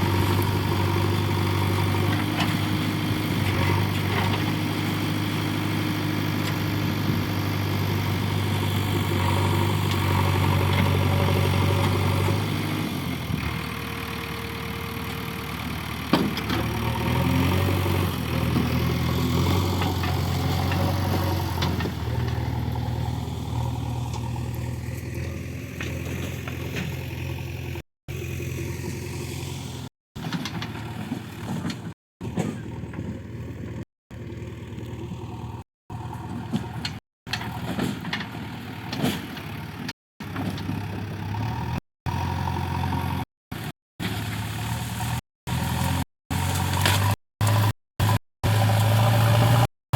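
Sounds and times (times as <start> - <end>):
backhoe diesel engine running: 0.0 - 49.7.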